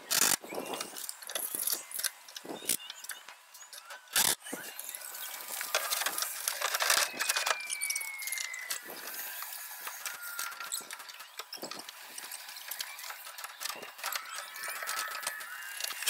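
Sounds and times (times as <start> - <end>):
thin falling whine: 0.3 - 16.0.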